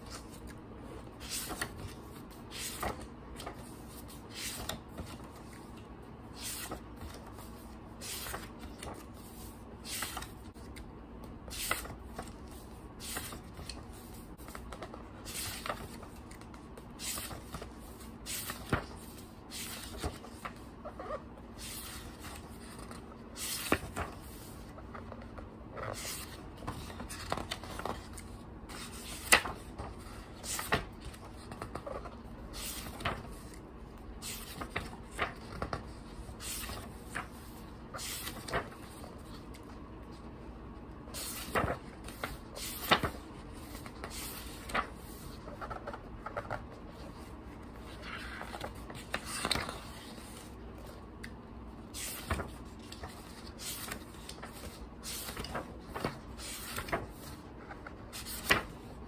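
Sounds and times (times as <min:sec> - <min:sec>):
book pages turning: 0:00.0 - 0:40.3, 0:40.9 - 0:58.9.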